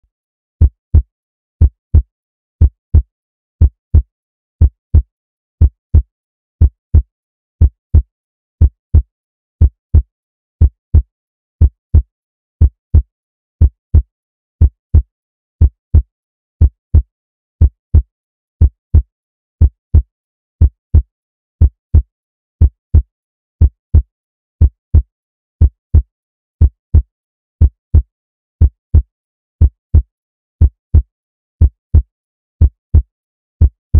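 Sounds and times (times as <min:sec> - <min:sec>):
heartbeat thumps: 0:00.6 - 0:33.8.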